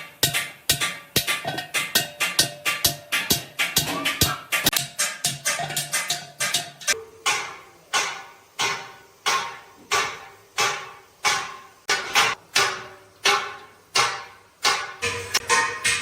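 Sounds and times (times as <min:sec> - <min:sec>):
hammer striking steel: 0:00.0 - 0:16.0.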